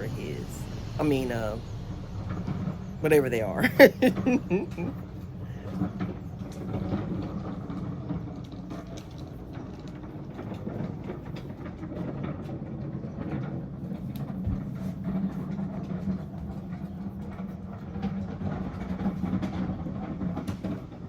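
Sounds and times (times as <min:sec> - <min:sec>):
distant engine rumble: 0:00.0 - 0:21.0.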